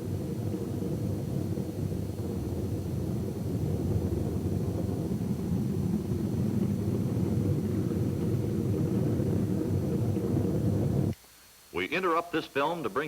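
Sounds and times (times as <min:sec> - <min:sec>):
airliner engines rumbling: 0:00.0 - 0:11.2.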